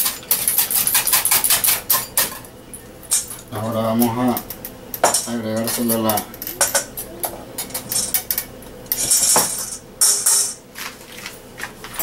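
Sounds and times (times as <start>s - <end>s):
metal bowls and utensil clinking: 0.0s - 12.0s.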